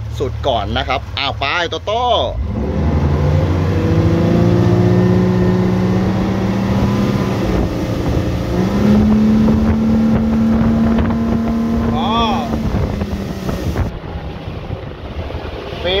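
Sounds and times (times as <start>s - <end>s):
outboard motor at full throttle: 0.0s - 16.0s
rushing boat wake: 0.0s - 16.0s
wind on microphone: 2.4s - 16.0s.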